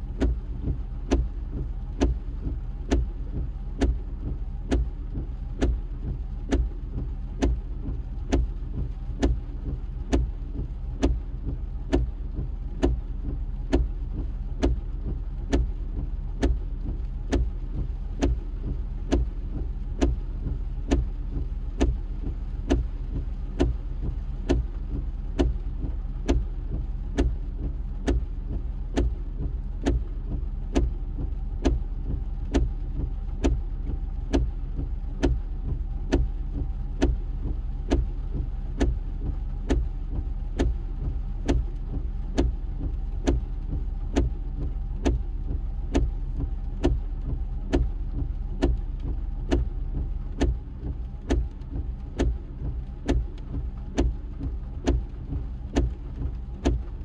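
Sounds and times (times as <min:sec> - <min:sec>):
low steady hum: 0:00.0 - 0:57.0
rain on windshield: 0:00.0 - 0:57.0
windshield wipers thumping: 0:00.0 - 0:57.0.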